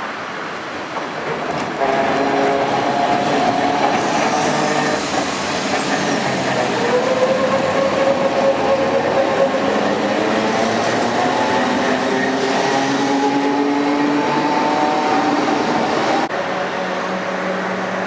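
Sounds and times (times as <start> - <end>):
electric tram running on rails: 0.0 - 18.0
tram whining tone: 1.2 - 16.3.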